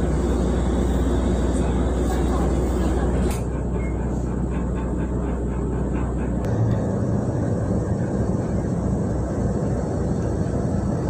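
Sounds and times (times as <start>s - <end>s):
railcar rumbling on track: 0.0s - 11.0s.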